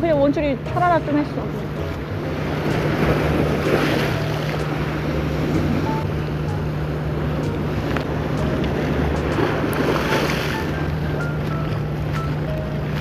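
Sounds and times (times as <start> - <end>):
low engine hum: 0.0 - 13.0
waves: 0.0 - 13.0.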